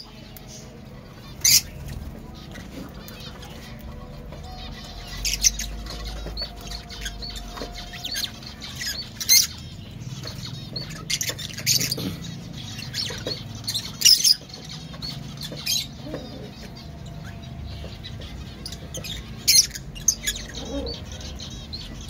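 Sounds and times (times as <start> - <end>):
lovebirds chirping: 0.0 - 22.0.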